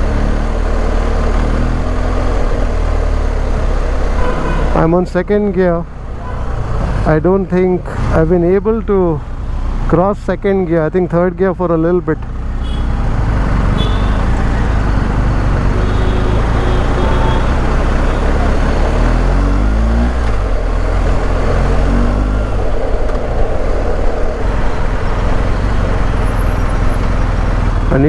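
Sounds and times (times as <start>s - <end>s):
motorcycle engine: 0.0s - 28.0s
rushing riding noise: 0.0s - 28.0s.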